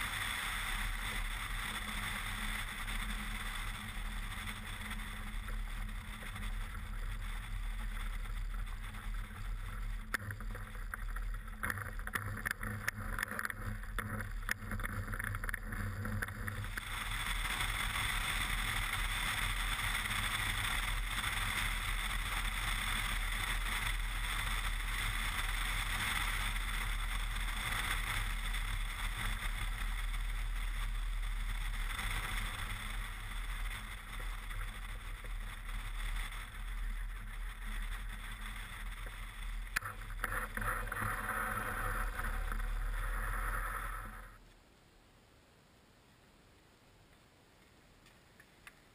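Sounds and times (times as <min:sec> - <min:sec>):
plane engine and propeller: 0:00.0 - 0:44.4.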